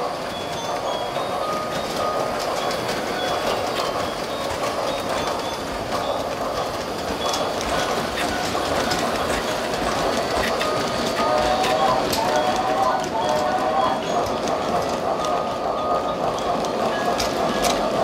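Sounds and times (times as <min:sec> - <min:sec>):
toy train motor running: 0:00.0 - 0:18.0
light clicks over rails: 0:00.2 - 0:18.0.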